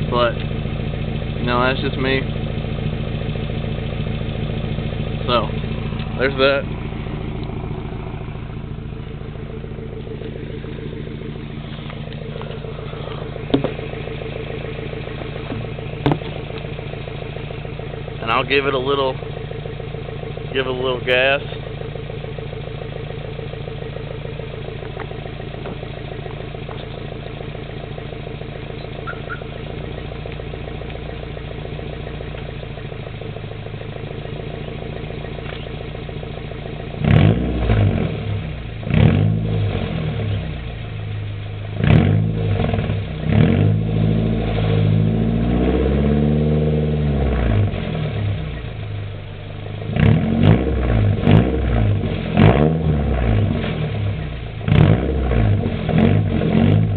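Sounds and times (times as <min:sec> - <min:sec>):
engine revving: 0:00.0 - 0:33.4, 0:34.0 - 0:40.9, 0:41.6 - 0:56.9
car engine idling: 0:00.0 - 0:56.9.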